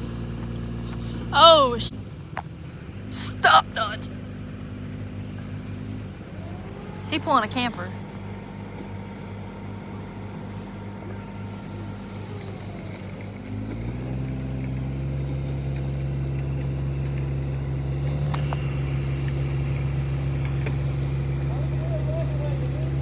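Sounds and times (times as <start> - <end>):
vehicle engine idling and revving: 0.0 - 23.0.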